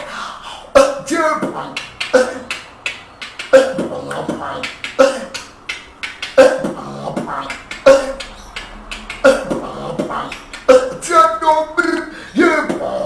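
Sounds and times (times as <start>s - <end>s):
person beatboxing: 0.0s - 13.0s.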